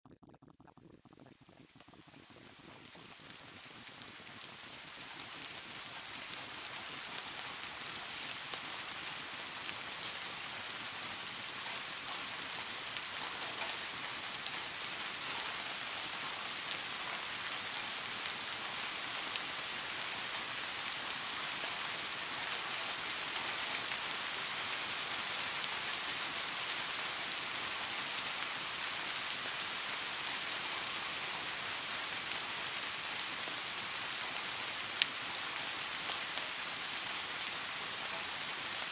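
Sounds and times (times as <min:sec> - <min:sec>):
steady rain hiss: 0:00.8 - 0:38.9.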